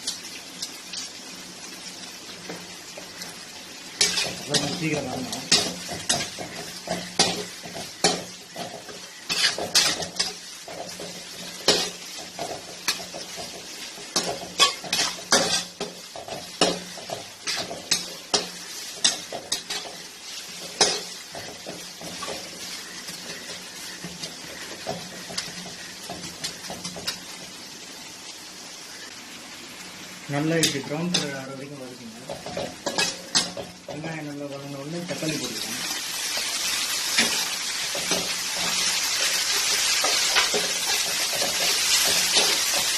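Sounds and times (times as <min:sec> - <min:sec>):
food sizzling in oil: 0:00.0 - 0:42.9.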